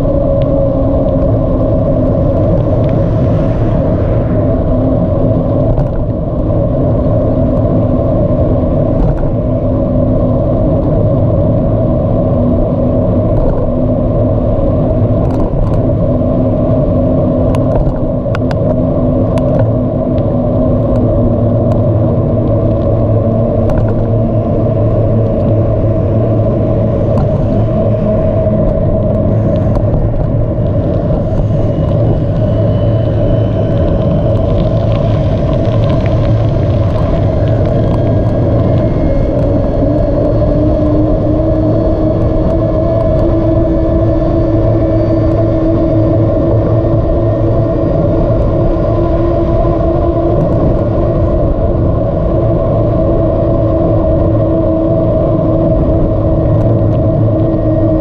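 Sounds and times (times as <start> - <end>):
bicycle tyre rumble: 0.0 - 58.0
low steady hum: 0.0 - 58.0
wind: 0.0 - 58.0.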